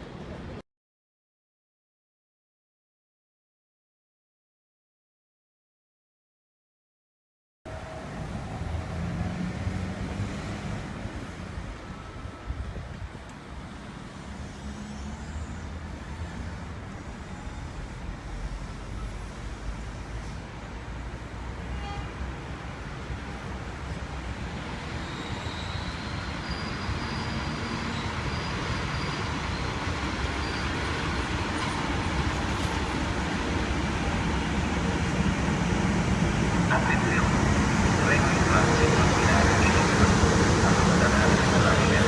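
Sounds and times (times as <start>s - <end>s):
train rumble and rail noise: 0.0s - 0.6s, 7.7s - 42.0s.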